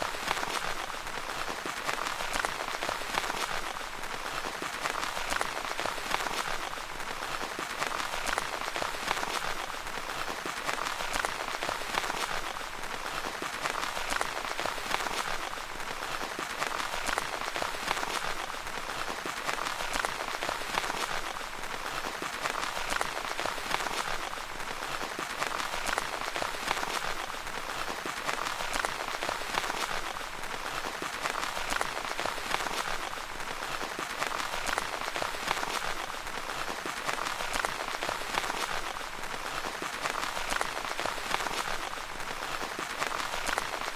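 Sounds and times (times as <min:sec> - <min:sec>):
rain pattering on tent fabric: 0:00.0 - 0:43.9.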